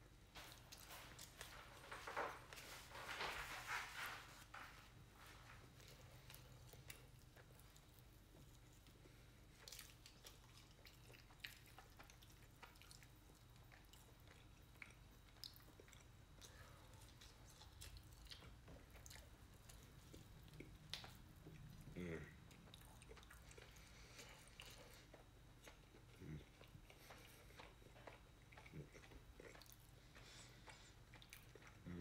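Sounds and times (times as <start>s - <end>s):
low steady hum: 0.0s - 32.0s
person chewing: 5.6s - 32.0s.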